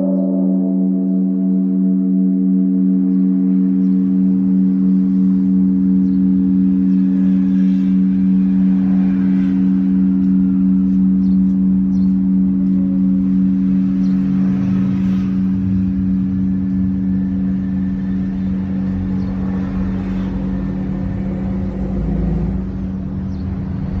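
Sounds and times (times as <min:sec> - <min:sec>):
temple bell humming: 0:00.0 - 0:23.2
low rumble: 0:00.0 - 0:24.0.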